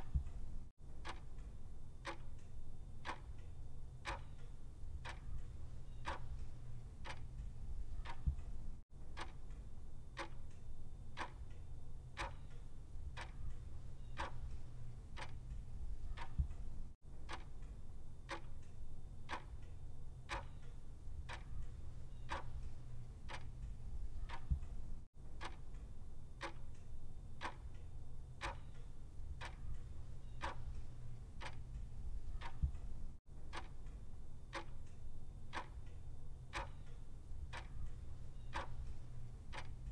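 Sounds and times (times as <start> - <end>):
clock ticking: 0.0 - 9.6, 10.2 - 10.6, 11.2 - 11.6, 12.2 - 18.7, 19.3 - 19.7, 20.3 - 27.8, 28.4 - 39.9.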